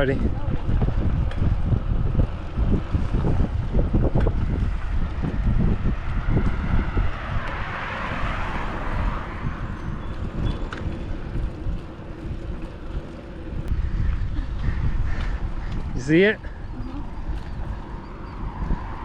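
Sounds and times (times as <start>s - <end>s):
vehicle tyre noise passing: 0.0s - 19.0s
wind buffeting microphone: 0.0s - 19.0s.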